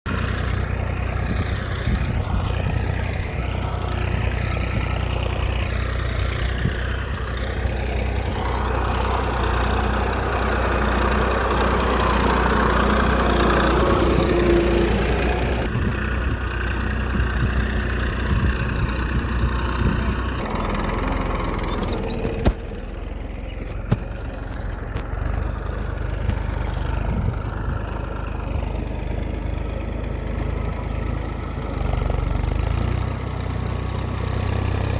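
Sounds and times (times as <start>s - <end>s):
small tractor engine idling: 0.1s - 34.9s.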